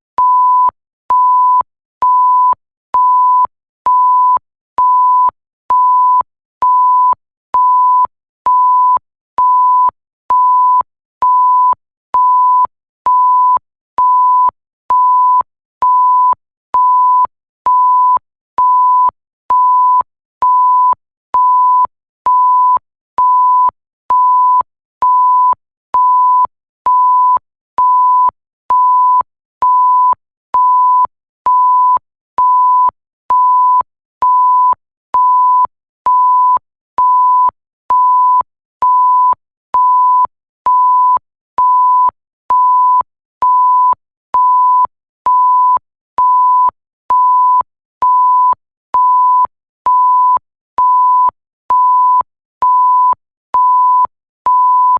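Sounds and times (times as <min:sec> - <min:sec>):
censor bleep tone: 0:00.2 - 0:54.9.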